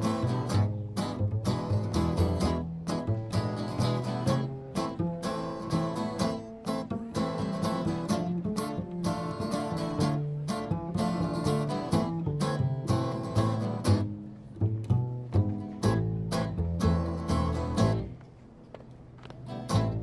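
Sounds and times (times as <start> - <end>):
acoustic guitar strumming: 0.0 - 18.2, 19.5 - 20.0
plucked double bass: 0.0 - 20.0.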